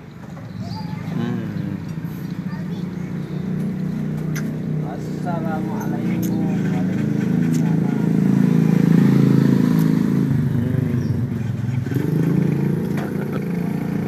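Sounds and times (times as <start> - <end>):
motorcycle engine running: 1.1 - 14.0.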